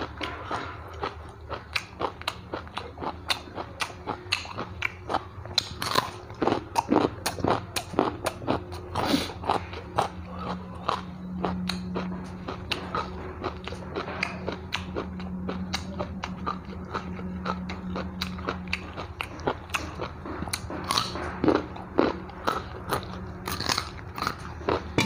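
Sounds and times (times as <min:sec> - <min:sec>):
crunching and chewing carrot: 0:00.0 - 0:25.0
low steady hum: 0:00.0 - 0:25.0.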